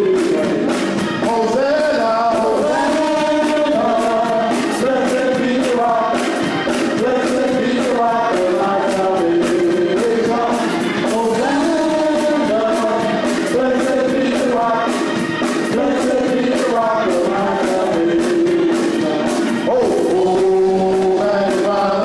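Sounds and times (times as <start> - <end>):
band playing worship song: 0.0 - 22.0
people singing: 0.0 - 22.0
steady drum beat: 0.0 - 22.0.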